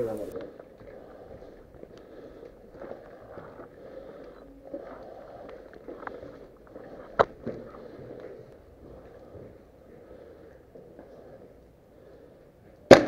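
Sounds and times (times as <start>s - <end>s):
footsteps: 0.0s - 11.6s.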